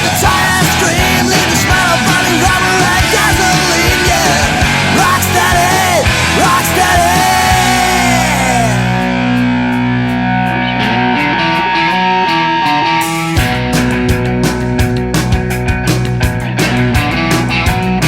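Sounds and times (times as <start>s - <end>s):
rock music with electric guitar: 0.0s - 18.0s.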